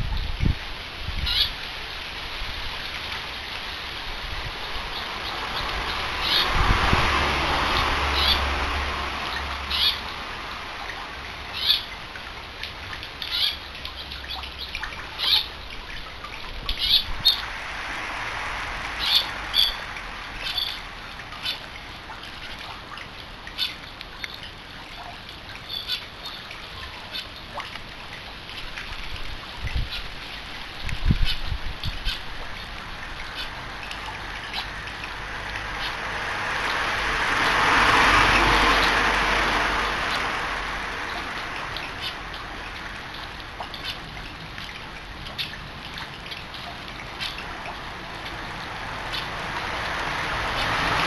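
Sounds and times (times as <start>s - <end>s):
broad rushing noise: 0.0s - 51.0s.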